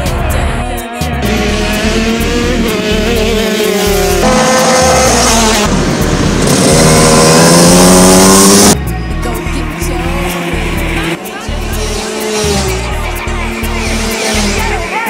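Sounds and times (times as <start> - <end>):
go-kart engines passing: 1.2 - 15.0.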